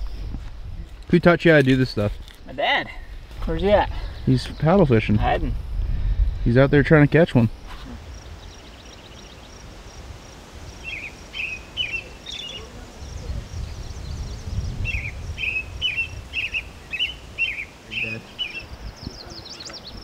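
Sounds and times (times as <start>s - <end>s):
songbird chirping: 0.0s - 5.5s, 6.5s - 20.0s.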